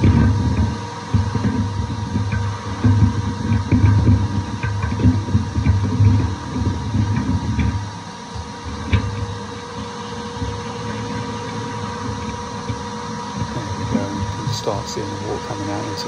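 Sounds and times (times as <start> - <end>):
wet and dry vacuum whining: 0.0 - 16.0.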